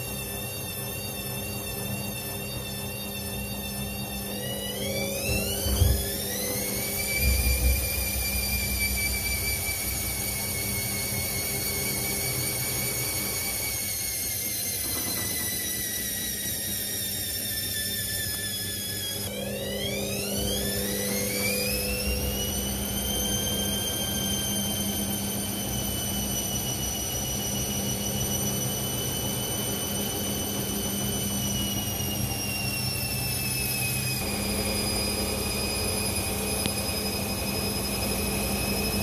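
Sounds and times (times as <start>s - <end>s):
motor whine: 0.0s - 39.0s.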